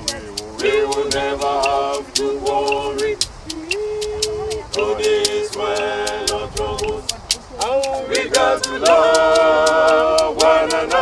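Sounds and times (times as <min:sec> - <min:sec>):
group singing a cappella: 0:00.0 - 0:11.0
percussive clicking beat: 0:00.0 - 0:11.0.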